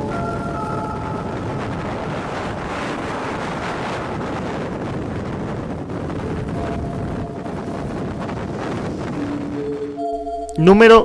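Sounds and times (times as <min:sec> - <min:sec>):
strong wind buffeting microphone: 0:00.0 - 0:10.4.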